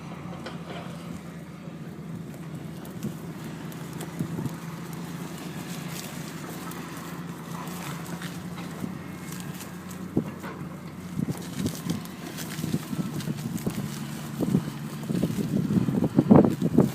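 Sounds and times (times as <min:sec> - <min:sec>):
diesel engine droning: 0:00.0 - 0:16.9.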